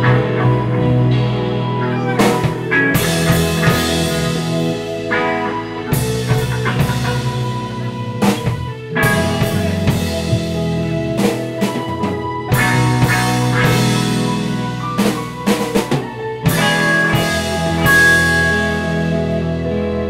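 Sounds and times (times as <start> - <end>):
funk band playing: 0.0 - 20.0.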